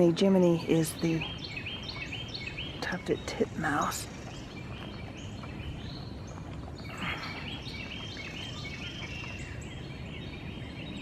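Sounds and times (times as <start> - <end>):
songbirds calling: 0.0 - 11.0.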